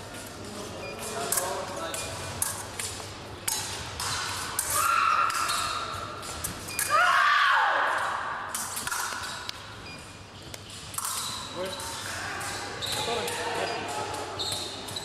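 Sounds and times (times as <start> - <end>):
footwork on fencing piste: 0.0 - 7.1, 7.9 - 15.0.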